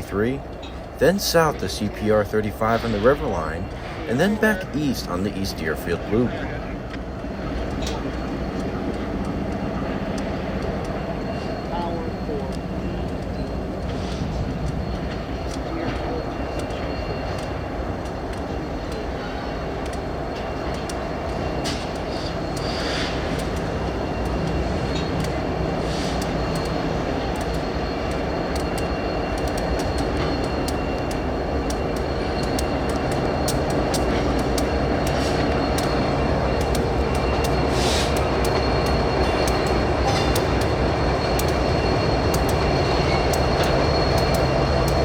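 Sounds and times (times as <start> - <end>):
locomotive low rumble: 0.0 - 45.0
wheels clicking on rails: 0.0 - 45.0.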